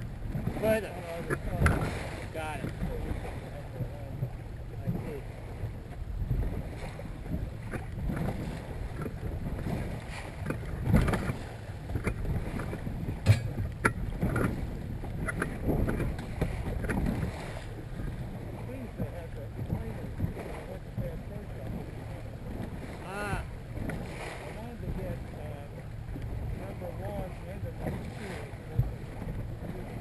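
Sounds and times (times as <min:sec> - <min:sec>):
water slapping against boat hull: 0:00.0 - 0:30.0
wind buffeting microphone: 0:00.0 - 0:30.0.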